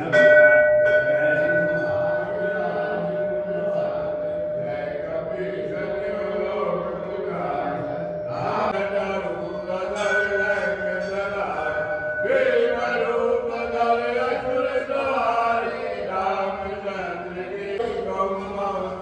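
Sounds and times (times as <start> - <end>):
mantra chanting with music: 0.0 - 19.0.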